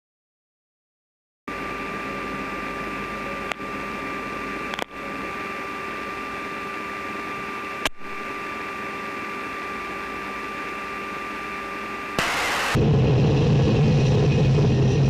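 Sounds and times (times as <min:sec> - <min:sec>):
mechanical hum with high whine: 0:01.5 - 0:15.0.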